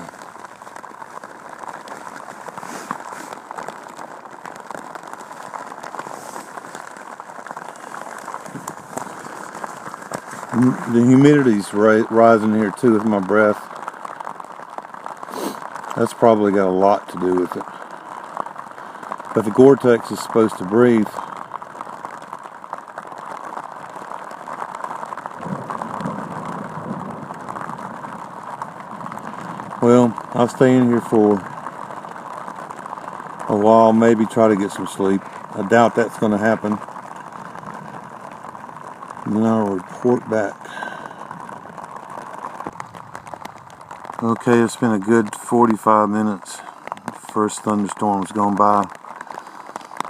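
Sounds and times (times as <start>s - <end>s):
rain on fabric cover: 0.0s - 50.0s.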